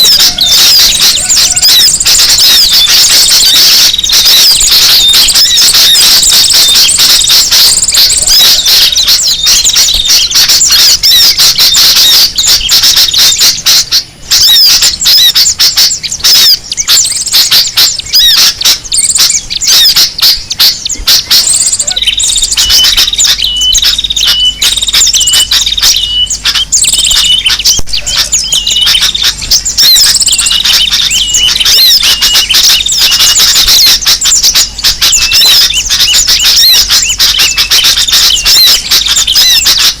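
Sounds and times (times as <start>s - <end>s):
small birds chattering: 0.0s - 40.0s.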